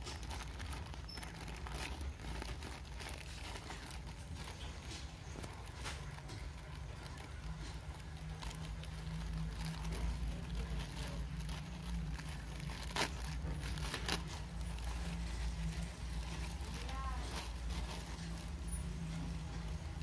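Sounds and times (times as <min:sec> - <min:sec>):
plastic bag crinkling: 0:00.0 - 0:20.0
steady low rumble: 0:00.0 - 0:20.0.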